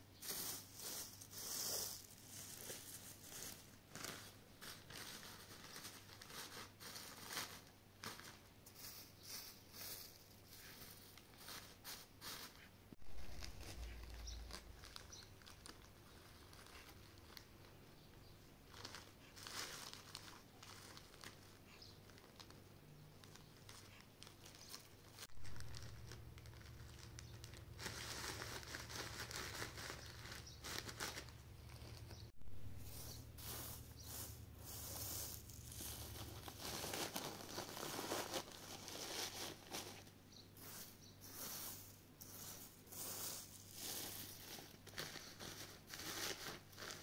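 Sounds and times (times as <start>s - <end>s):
dried petals rustling: 0.0s - 47.0s
plastic bag crinkling: 0.2s - 18.1s, 18.7s - 40.8s, 42.3s - 47.0s.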